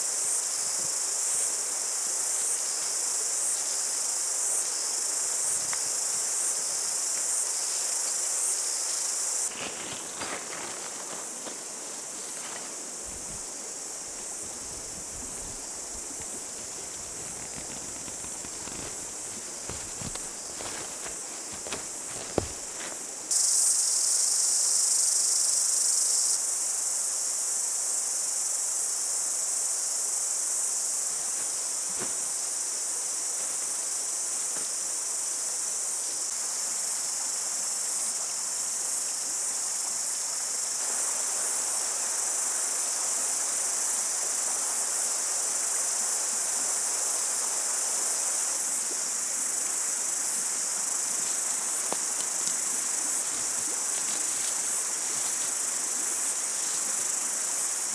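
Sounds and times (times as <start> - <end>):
high-pitched insect chorus: 0.0 - 57.9.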